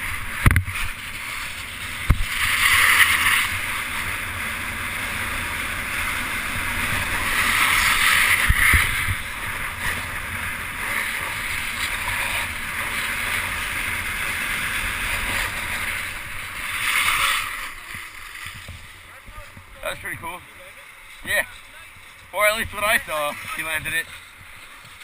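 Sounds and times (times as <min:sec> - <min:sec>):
snowboard scraping over snow: 0:00.0 - 0:25.0.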